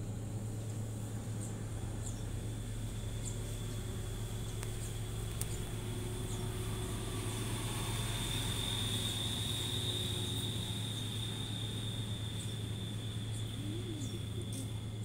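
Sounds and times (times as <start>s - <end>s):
high-pitched whine: 0.0s - 15.0s
low hum: 0.0s - 15.0s.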